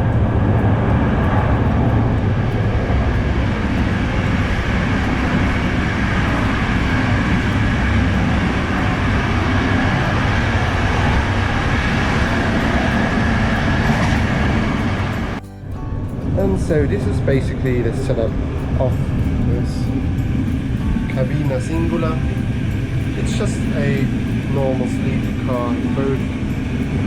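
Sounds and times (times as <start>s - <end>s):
train rumbling in motion: 0.0s - 27.0s.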